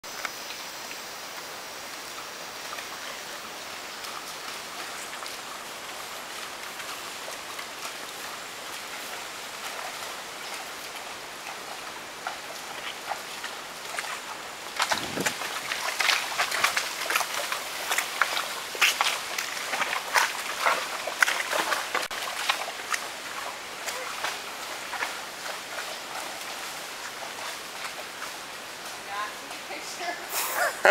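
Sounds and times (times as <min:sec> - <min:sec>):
horse hooves splashing through water: 0:00.0 - 0:30.9
steady outdoor hiss: 0:00.0 - 0:30.9.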